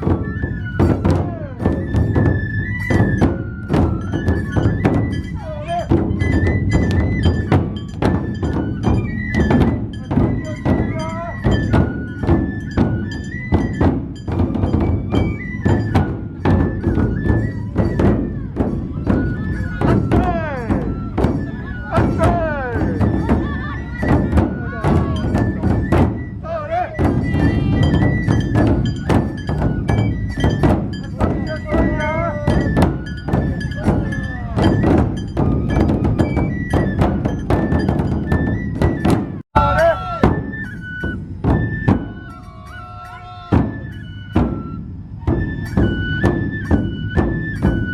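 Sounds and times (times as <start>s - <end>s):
bamboo flutes melody: 0.0s - 47.9s
taiko drums beating: 0.0s - 47.9s.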